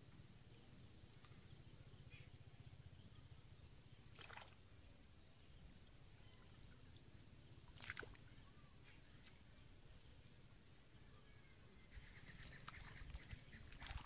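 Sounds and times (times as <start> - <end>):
faint low outdoor rumble: 0.0 - 14.0.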